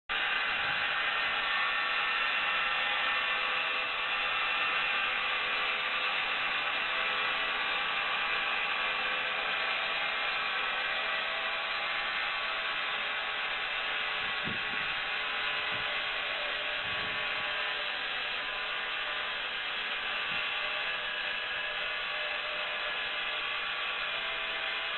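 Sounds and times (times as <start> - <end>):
sawmill machinery whirring: 0.1 - 24.9.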